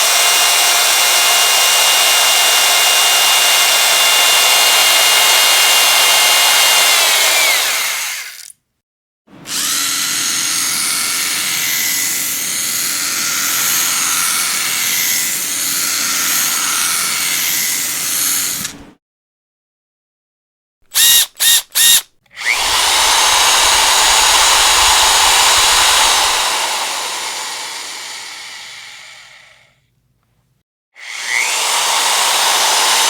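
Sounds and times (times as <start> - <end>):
electric drill whining: 0.0 - 8.5, 9.4 - 18.7, 20.9 - 29.7, 31.0 - 33.0.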